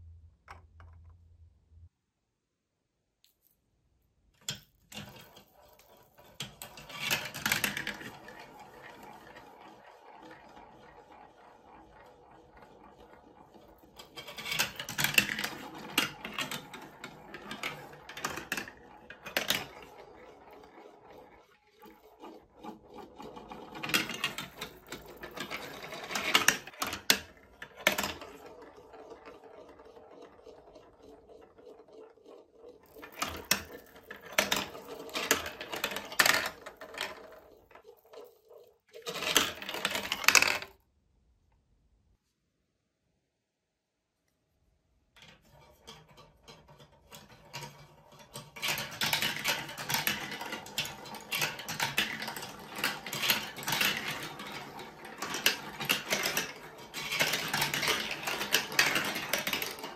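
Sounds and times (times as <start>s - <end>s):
balls clattering down steps: 4.4s - 40.8s, 45.2s - 59.9s
plastic balls rolling on tracks: 4.4s - 40.8s, 45.2s - 59.9s.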